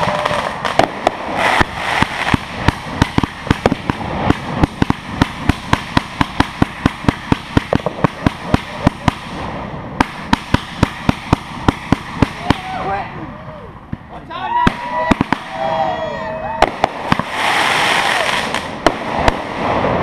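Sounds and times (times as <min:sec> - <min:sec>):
fireworks sharp bangs: 0:00.0 - 0:13.0, 0:13.9 - 0:15.8, 0:16.5 - 0:20.0.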